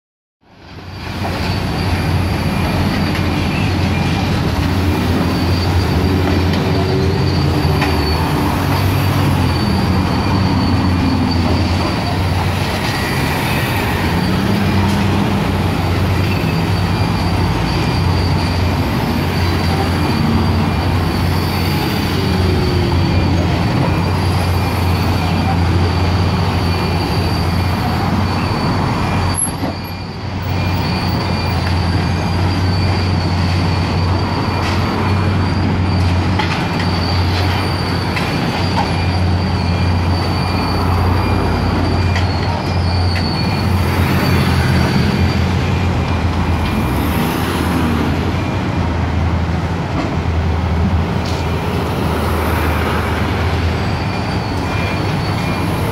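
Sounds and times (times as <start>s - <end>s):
high-pitched squeal: 0.7s - 55.9s.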